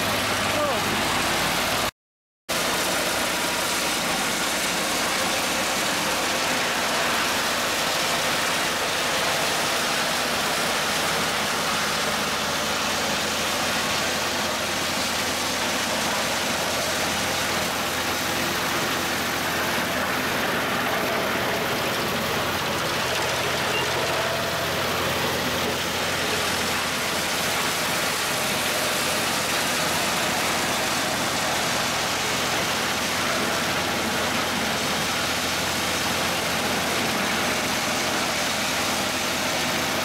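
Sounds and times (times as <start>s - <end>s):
wood chipper engine running: 0.0s - 1.9s, 2.5s - 40.0s.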